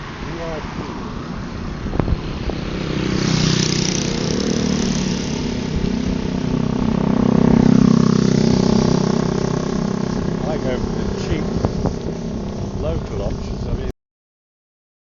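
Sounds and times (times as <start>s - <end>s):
engine running: 0.0s - 13.9s.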